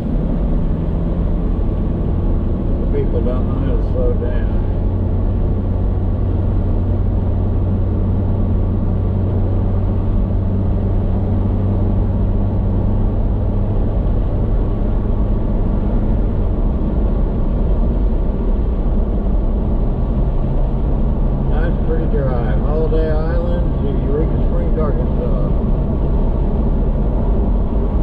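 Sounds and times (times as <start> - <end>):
car cabin road and engine drone: 0.0 - 28.0.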